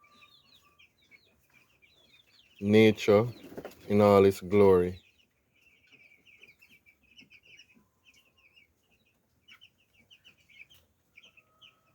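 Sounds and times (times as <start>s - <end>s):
chicks peeping: 0.0s - 11.9s.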